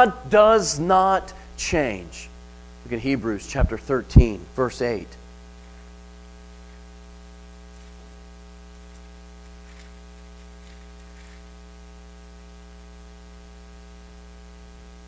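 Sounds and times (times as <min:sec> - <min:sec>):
electrical mains hum: 0:00.0 - 0:15.0
sound system hiss: 0:00.0 - 0:15.0.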